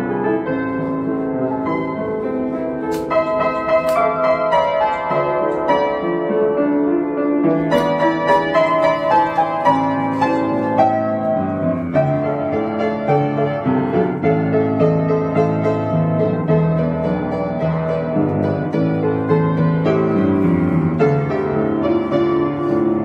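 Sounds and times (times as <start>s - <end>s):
upright piano melody: 0.0s - 23.0s.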